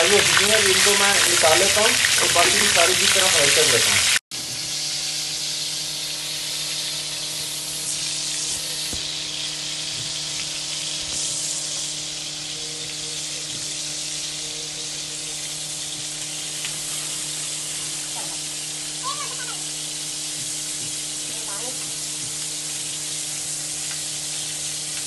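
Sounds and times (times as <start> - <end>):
meat sizzling in oil: 0.0 - 25.0.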